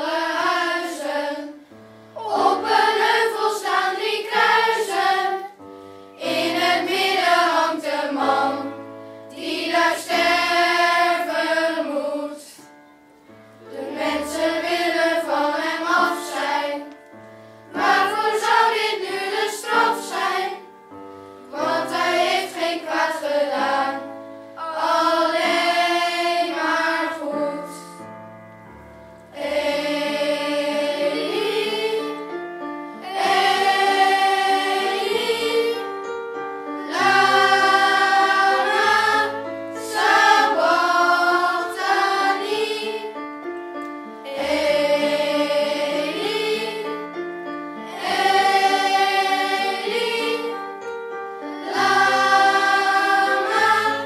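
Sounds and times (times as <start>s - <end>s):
children's choir singing: 0.0s - 12.8s, 13.6s - 17.0s, 17.7s - 20.8s, 21.5s - 28.0s, 29.3s - 54.0s.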